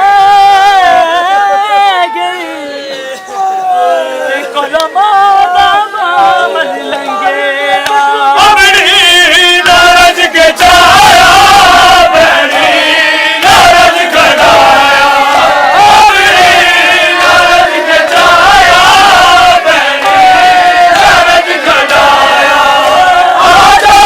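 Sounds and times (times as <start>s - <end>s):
men chanting a lament: 0.0s - 24.0s.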